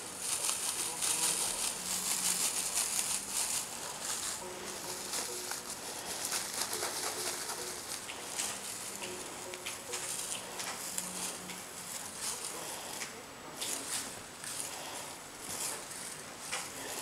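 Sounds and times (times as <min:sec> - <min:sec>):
wand toy streamers rustling: 0:00.0 - 0:17.0.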